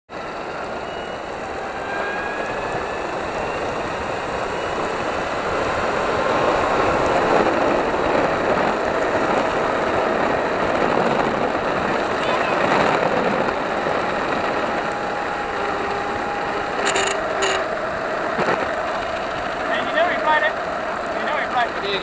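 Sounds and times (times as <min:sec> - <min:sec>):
electric motor whine: 0:00.2 - 0:22.0
skateboard wheels rolling on asphalt: 0:00.2 - 0:22.0.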